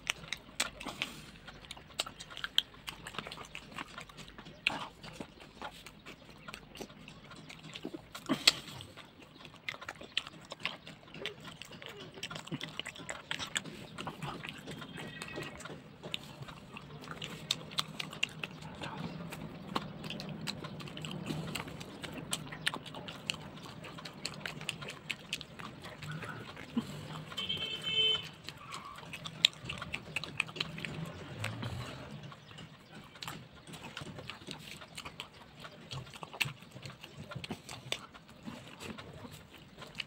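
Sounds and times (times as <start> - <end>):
mouth clicks: 0.0 - 40.0
wet chewing and lip smacking: 0.0 - 40.0.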